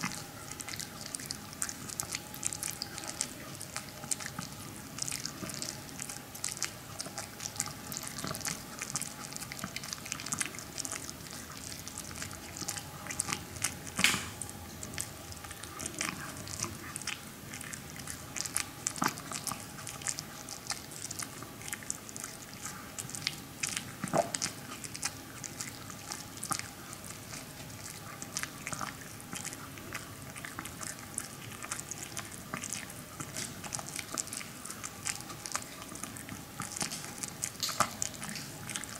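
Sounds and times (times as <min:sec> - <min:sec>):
dog chewing crunchy treat: 0:00.0 - 0:38.9.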